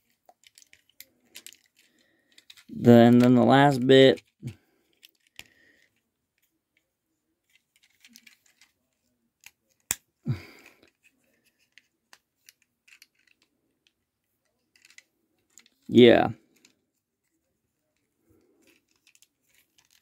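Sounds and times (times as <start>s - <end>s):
plastic toy parts clicking: 0.0s - 6.5s, 7.4s - 10.0s, 10.8s - 15.9s, 17.9s - 20.0s.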